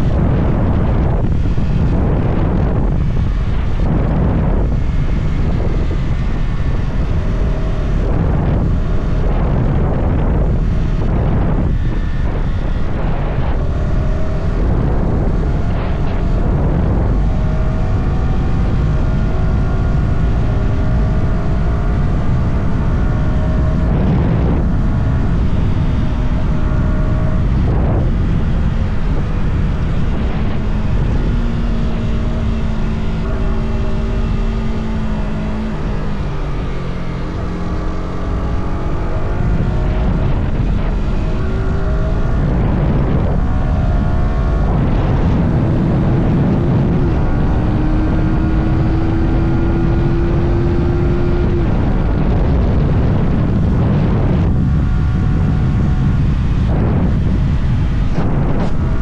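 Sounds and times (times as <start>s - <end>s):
motorcycle engine revving through gears: 0.0s - 59.0s
wind and road noise: 0.0s - 59.0s.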